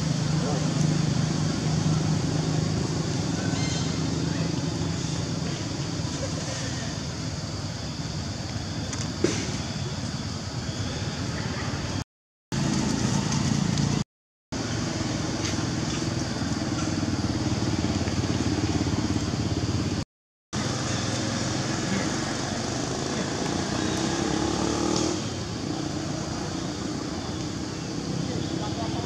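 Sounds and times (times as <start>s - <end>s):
engine hum: 0.0s - 20.0s, 20.6s - 29.0s.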